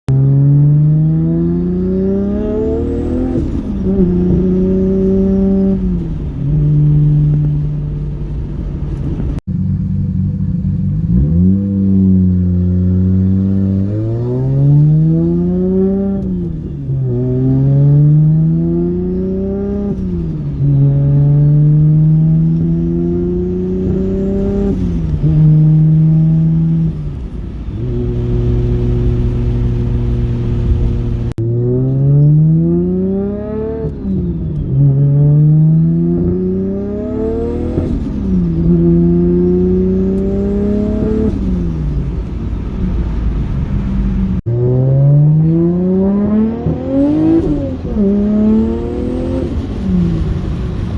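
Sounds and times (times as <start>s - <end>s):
car engine accelerating: 0.1s - 50.9s.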